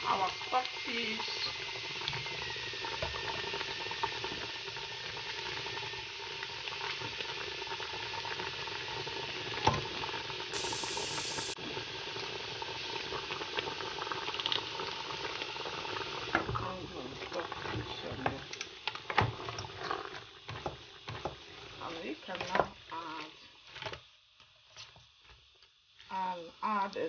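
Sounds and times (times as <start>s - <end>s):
soup boiling in a pot: 0.0s - 25.8s.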